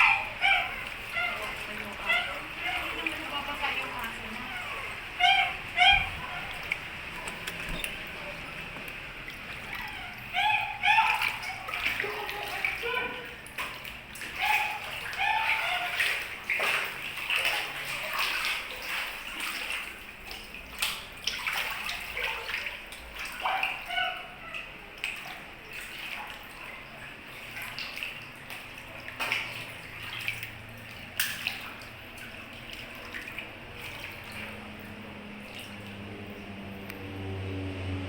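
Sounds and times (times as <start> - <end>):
water sloshing and splashing: 0.0 - 38.0.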